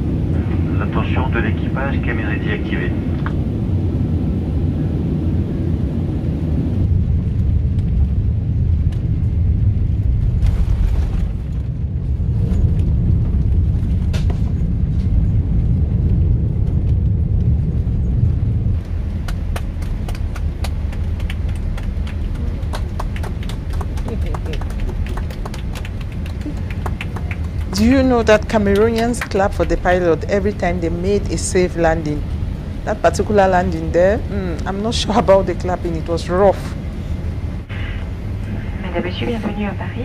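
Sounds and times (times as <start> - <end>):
aircraft rumbling on runway: 0.0 - 40.0.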